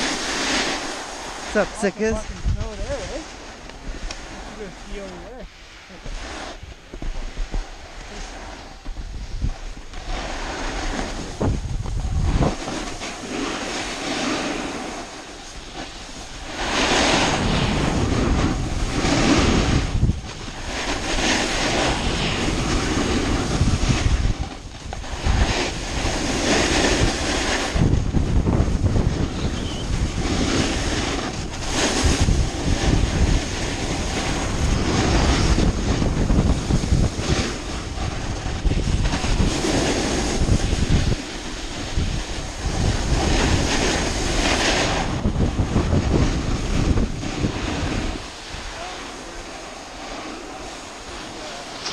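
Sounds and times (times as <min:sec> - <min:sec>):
snowboard scraping over snow: 0:00.0 - 0:51.9
wind on microphone: 0:00.0 - 0:51.9.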